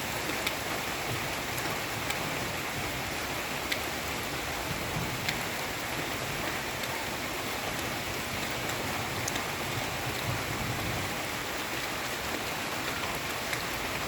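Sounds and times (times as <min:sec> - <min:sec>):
heavy rain on leaves: 0:00.0 - 0:14.0.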